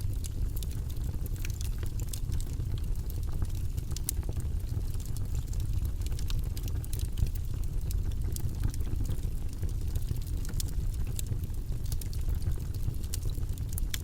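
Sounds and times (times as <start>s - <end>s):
burning wood popping: 0.0s - 14.0s
campfire crackling: 0.0s - 14.0s
low fire rumble: 0.0s - 14.0s.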